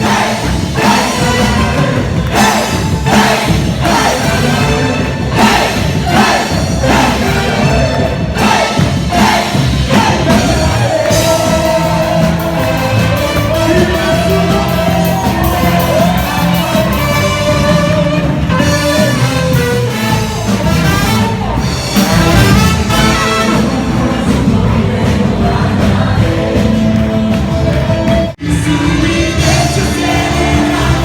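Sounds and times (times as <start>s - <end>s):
person singing over a beat: 0.0s - 19.0s, 23.1s - 31.0s.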